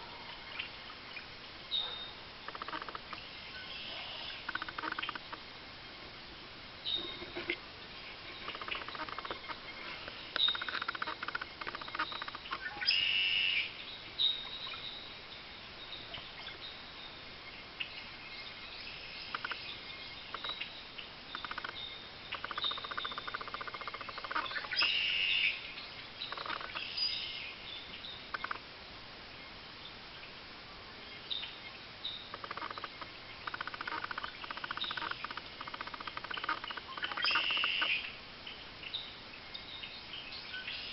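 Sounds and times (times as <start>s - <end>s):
birds chirping and chittering: 0.3s - 6.2s, 6.8s - 28.6s, 31.0s - 40.9s.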